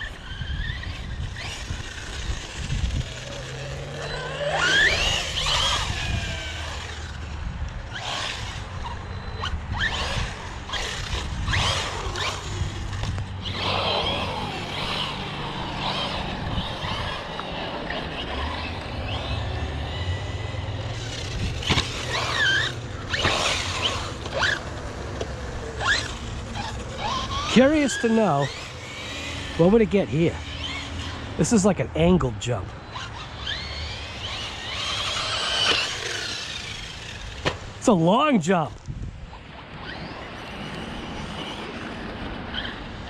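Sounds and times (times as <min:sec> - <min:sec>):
electric toy car motor whining: 0:00.0 - 0:31.6, 0:32.7 - 0:37.8, 0:38.8 - 0:43.0.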